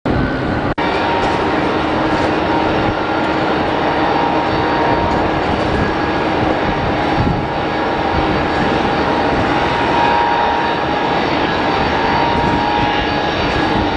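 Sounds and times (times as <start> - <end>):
jet engines rumbling with whine: 0.1 - 13.9.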